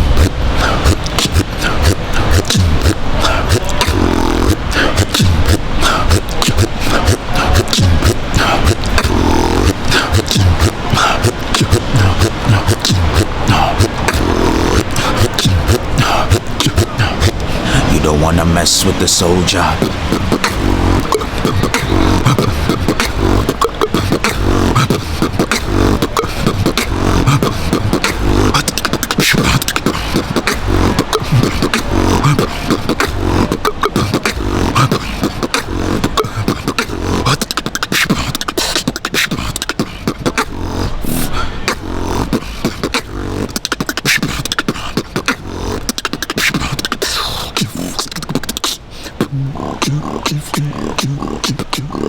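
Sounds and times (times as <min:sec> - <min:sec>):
beatboxed hip-hop beat: 0:00.0 - 0:52.0.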